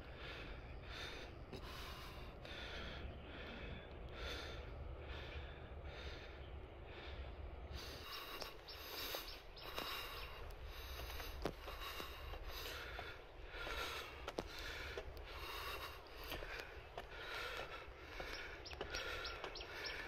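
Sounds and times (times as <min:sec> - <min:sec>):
person breathing hard: 0:00.0 - 0:20.0
steady low rumble: 0:00.0 - 0:20.0.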